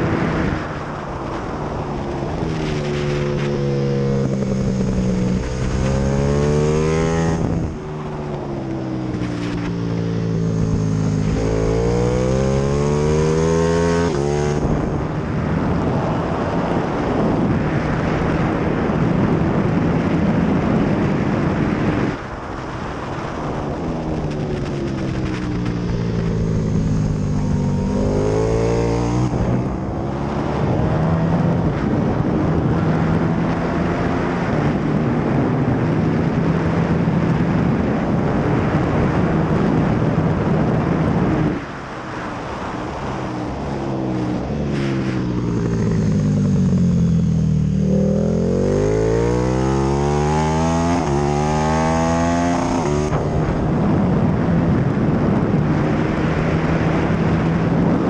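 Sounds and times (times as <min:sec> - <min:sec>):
motorcycle engine at full throttle: 0:00.0 - 0:58.0
wind rush: 0:00.0 - 0:58.0.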